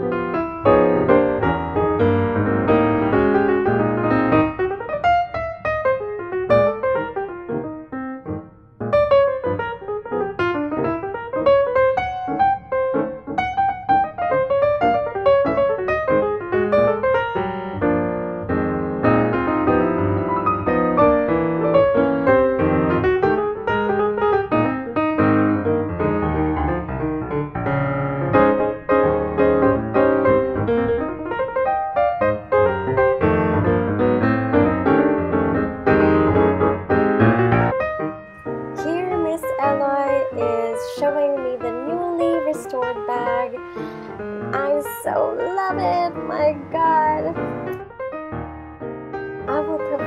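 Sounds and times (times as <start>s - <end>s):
piano music: 0.0s - 50.0s.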